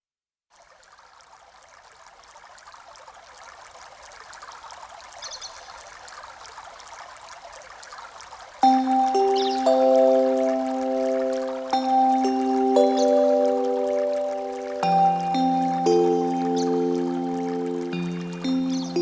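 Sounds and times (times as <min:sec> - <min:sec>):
running water stream: 0:00.5 - 0:19.0.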